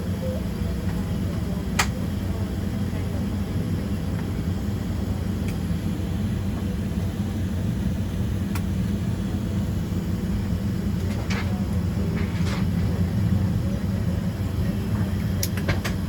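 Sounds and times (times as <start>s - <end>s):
aircraft cabin low rumble: 0.0s - 16.0s.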